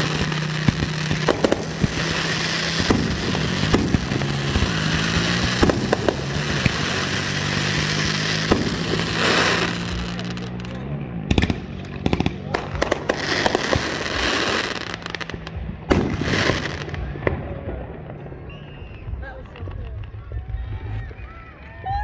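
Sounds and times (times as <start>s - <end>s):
fireworks bangs: 0.0s - 21.3s
fireworks crackling: 0.0s - 22.0s.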